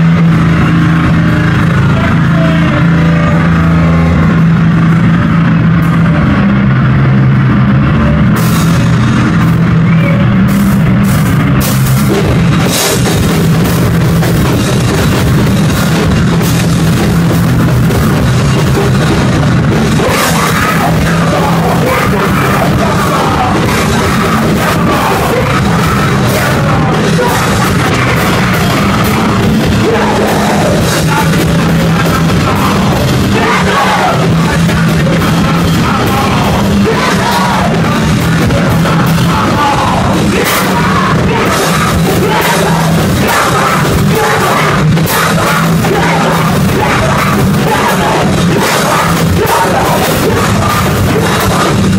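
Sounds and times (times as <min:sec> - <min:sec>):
live band playing heavy rock: 0:00.0 - 0:51.9.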